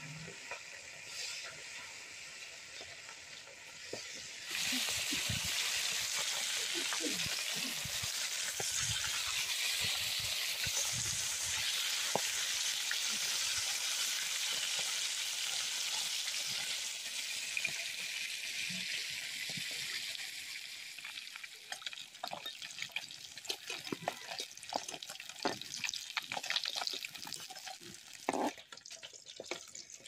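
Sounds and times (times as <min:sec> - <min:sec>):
fish deep-frying in oil: 0:00.0 - 0:30.0.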